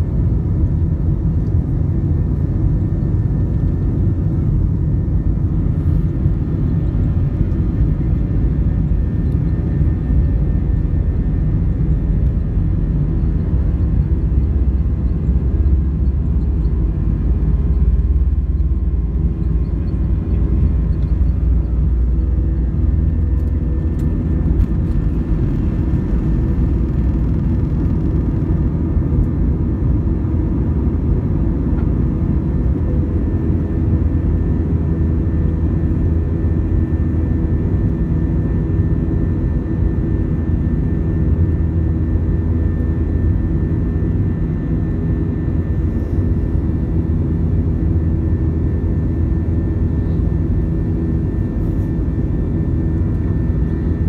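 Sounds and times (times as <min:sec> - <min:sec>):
high engine whine: 0:00.0 - 0:54.0
jet engine roaring: 0:00.0 - 0:54.0.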